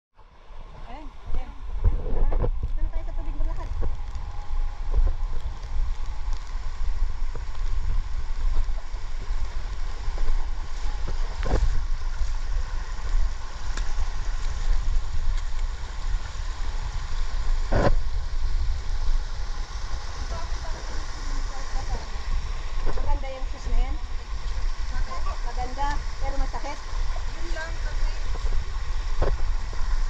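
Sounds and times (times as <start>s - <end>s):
wind rumbling on microphone: 0.2s - 30.0s
stream running over rock: 0.3s - 30.0s.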